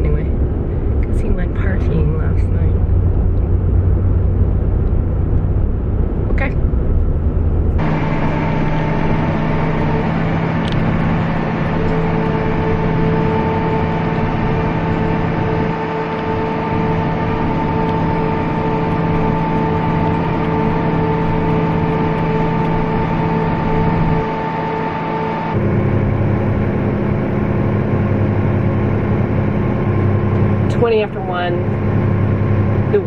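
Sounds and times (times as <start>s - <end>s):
machinery engine humming: 0.0s - 33.0s.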